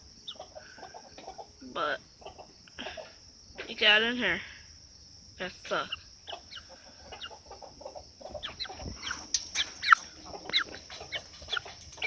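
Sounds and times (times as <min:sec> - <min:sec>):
chicken clucking: 0:00.1 - 0:03.7, 0:05.7 - 0:12.0.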